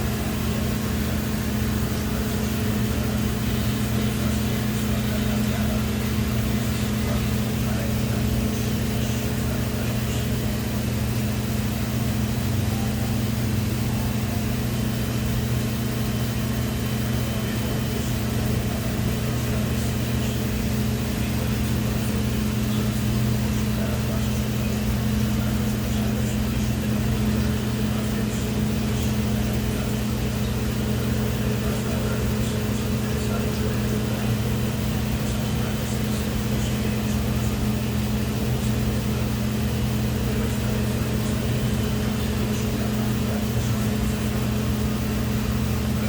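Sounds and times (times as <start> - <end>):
steady machine hum: 0.0 - 46.0.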